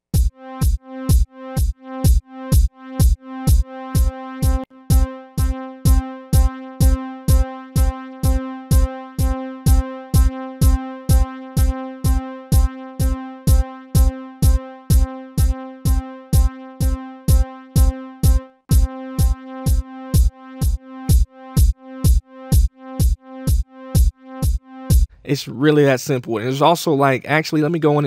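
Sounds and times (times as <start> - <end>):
drum machine kick drum: 0.1 - 25.2.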